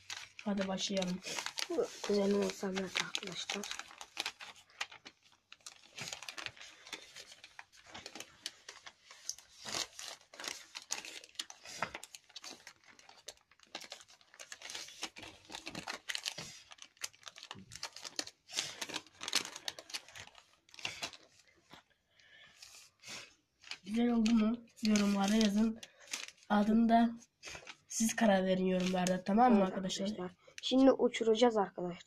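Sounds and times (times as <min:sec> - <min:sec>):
paper crinkling and rustling: 0:00.0 - 0:21.9, 0:22.5 - 0:30.9.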